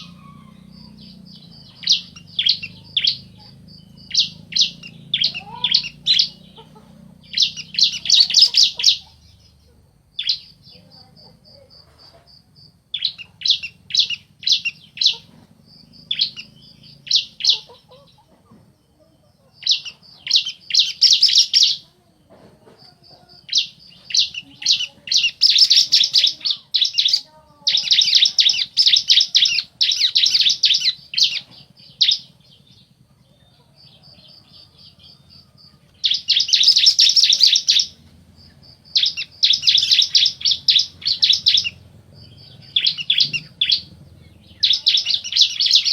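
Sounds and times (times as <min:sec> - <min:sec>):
birds calling in rapid trills: 0:00.0 - 0:45.9.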